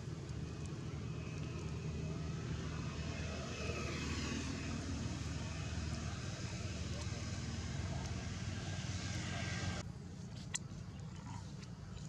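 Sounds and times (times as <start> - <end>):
low engine drone: 0.0 - 9.8.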